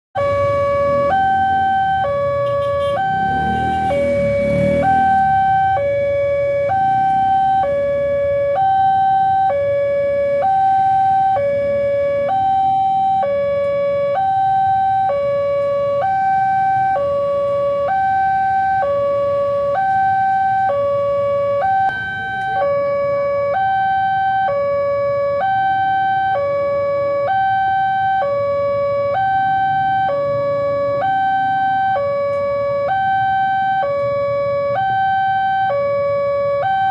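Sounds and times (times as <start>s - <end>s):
level crossing two-tone alarm: 0.2s - 36.9s.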